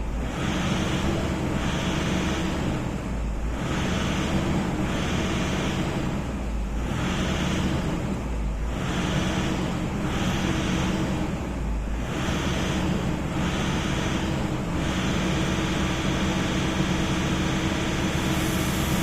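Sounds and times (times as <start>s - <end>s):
diesel engine surging: 0.0s - 19.0s.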